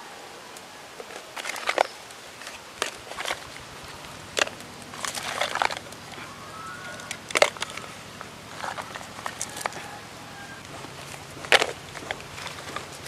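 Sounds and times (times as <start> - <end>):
steady background hiss: 0.0 - 13.0
dry pod shells cracking: 1.0 - 13.0.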